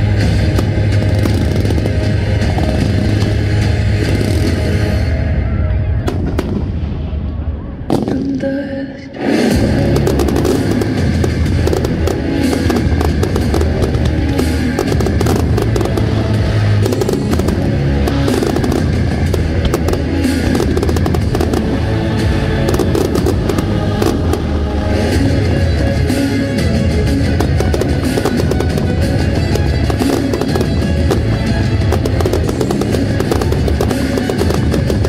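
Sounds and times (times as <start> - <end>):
firework bangs and crackles: 0.0 - 8.6, 9.3 - 35.0
loud music: 0.0 - 35.0.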